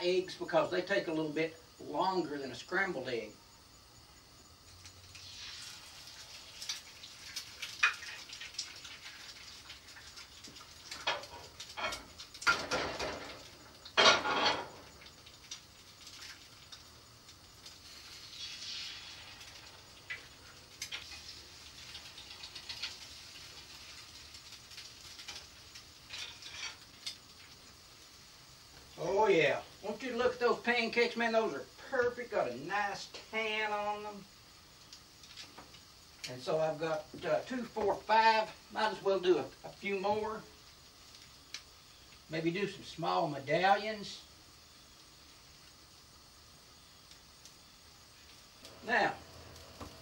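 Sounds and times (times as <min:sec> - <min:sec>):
food sizzling on griddle: 0:00.0 - 0:50.0.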